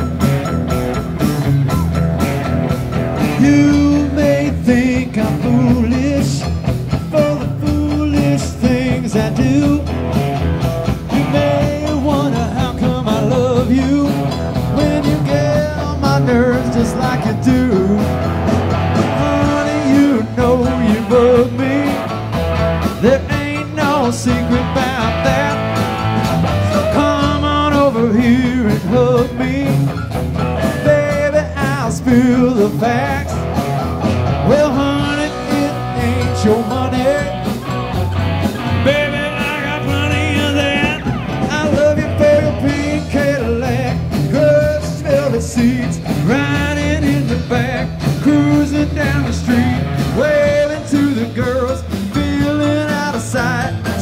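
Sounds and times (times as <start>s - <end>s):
acoustic and electric guitars: 0.0s - 54.0s
bass guitar: 0.0s - 54.0s
drum kit: 0.0s - 54.0s
keyboard: 0.0s - 54.0s.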